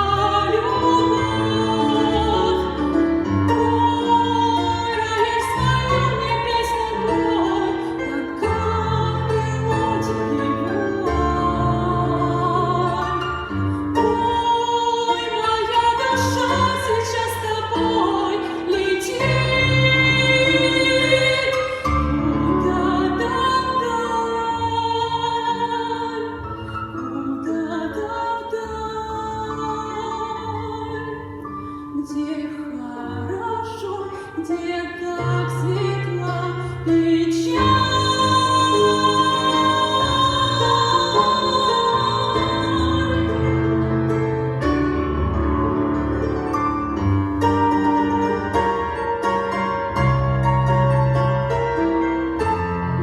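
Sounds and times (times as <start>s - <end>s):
operatic singing with accompaniment: 0.0s - 44.6s.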